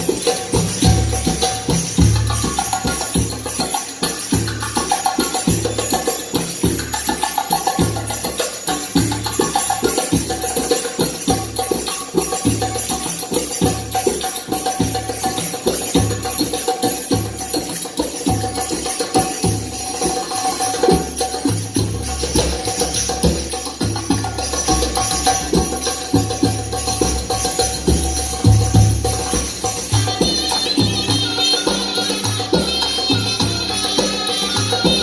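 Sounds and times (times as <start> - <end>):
drum beat: 0.0 - 35.0
held melodic tone: 0.0 - 35.0
high jingling: 0.0 - 35.0.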